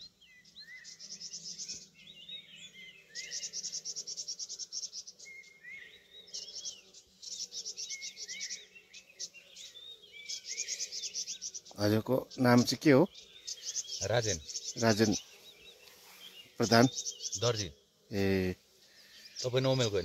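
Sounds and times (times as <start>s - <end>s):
rapid high-pitched bird trill: 0.0s - 5.6s, 6.3s - 20.0s
small birds chirping: 0.0s - 20.0s.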